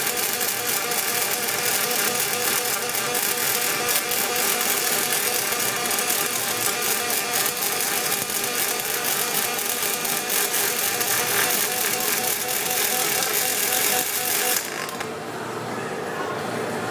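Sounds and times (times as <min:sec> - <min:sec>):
welding arc crackling hiss: 0:00.0 - 0:15.1.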